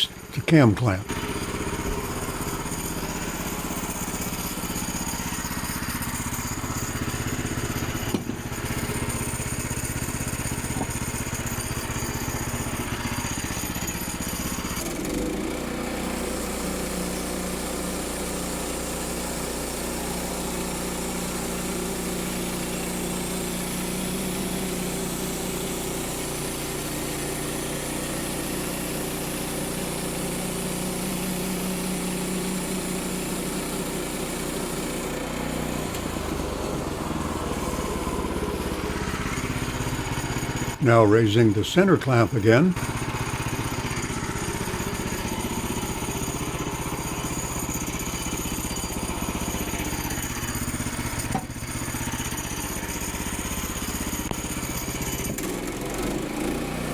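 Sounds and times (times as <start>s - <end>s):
small gasoline engine running: 0.0s - 56.9s.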